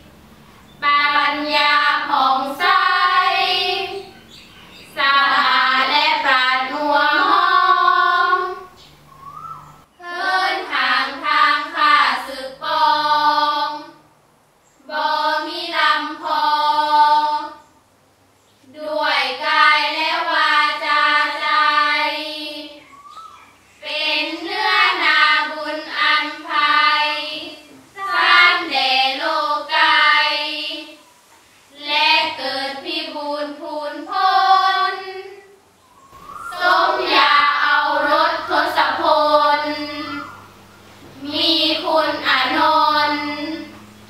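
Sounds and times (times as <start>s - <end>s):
girls chanting melody in group: 0.8s - 8.8s, 10.0s - 14.1s, 14.8s - 17.8s, 18.6s - 22.9s, 23.8s - 31.1s, 31.7s - 44.0s.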